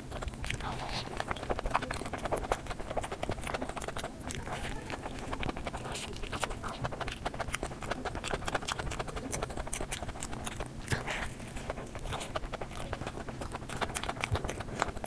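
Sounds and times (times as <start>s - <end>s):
chewing and biting a burger: 0.0s - 15.0s.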